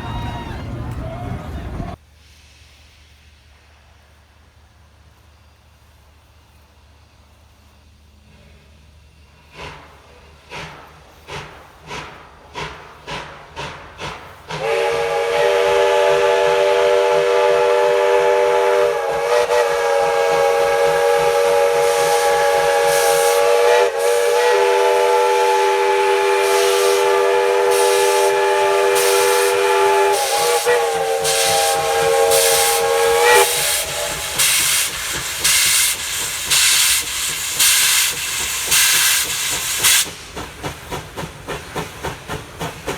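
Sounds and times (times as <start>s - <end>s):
steam locomotive exhaust chuffing: 0.0s - 42.9s.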